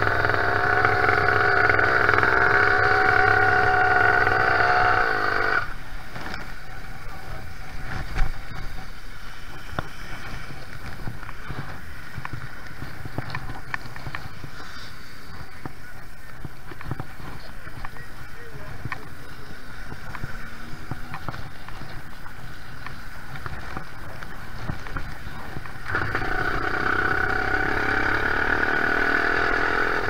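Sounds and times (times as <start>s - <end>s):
two-stroke engine idling: 0.0s - 30.0s.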